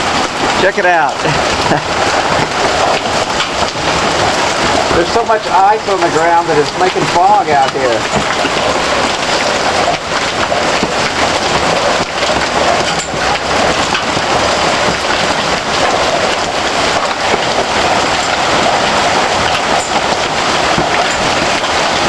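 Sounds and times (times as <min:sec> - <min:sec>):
heavy rain and hail: 0:00.0 - 0:22.0.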